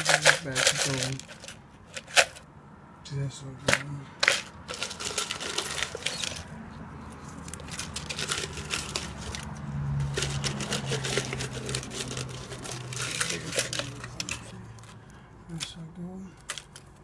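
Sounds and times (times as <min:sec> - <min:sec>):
scrap parts clicking and rustling: 0:00.0 - 0:02.4, 0:03.7 - 0:06.5, 0:07.1 - 0:15.0, 0:16.4 - 0:17.0.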